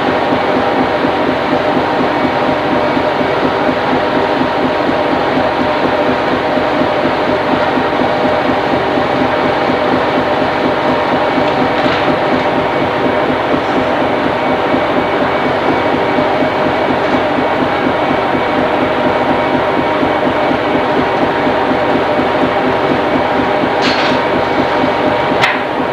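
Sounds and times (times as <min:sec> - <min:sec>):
boat engine and machinery drone: 0:00.0 - 0:25.9.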